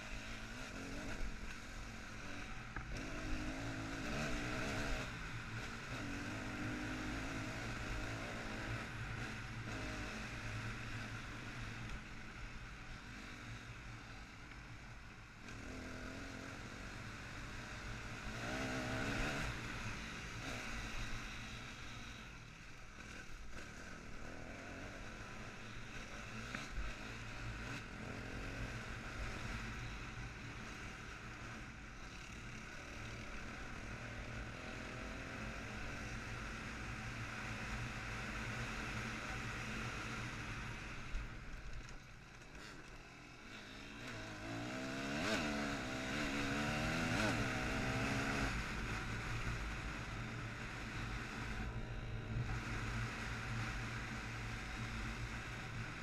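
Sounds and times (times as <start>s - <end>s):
motorcycle engine revving: 0.0s - 14.6s, 15.3s - 56.0s.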